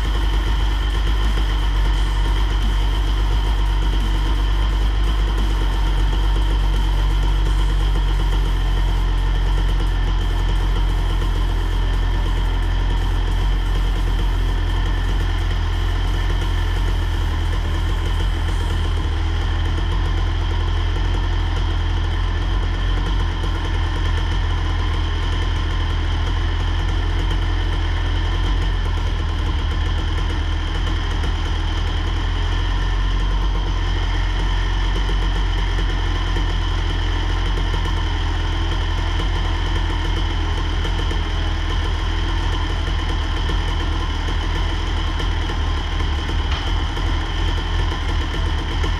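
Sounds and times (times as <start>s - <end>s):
motor humming steadily: 0.0s - 48.9s.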